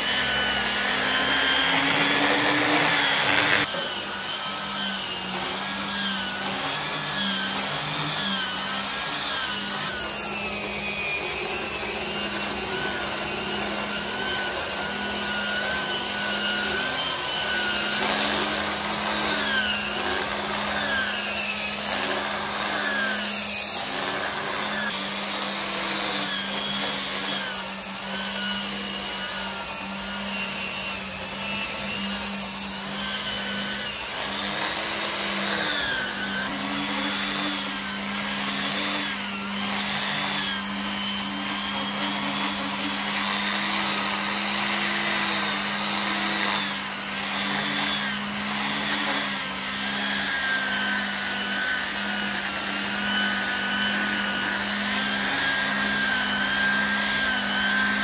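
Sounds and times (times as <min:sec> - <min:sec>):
angle grinder sanding wood: 0:00.0 - 0:58.0.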